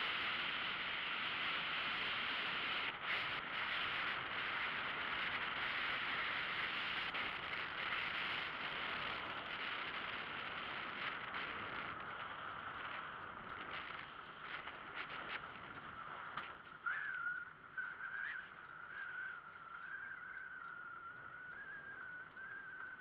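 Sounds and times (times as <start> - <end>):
tyre and drivetrain noise: 0.0 - 23.0.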